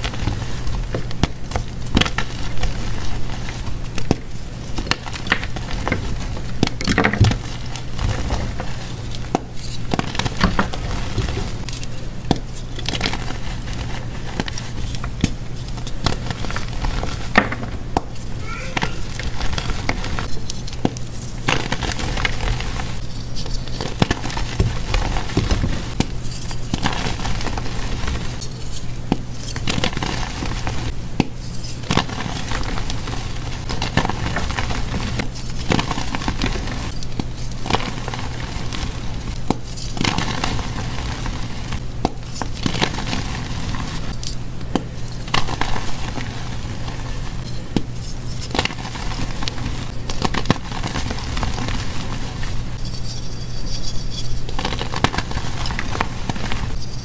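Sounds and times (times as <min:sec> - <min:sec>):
chalk crunching and crackling: 0:00.0 - 0:57.0.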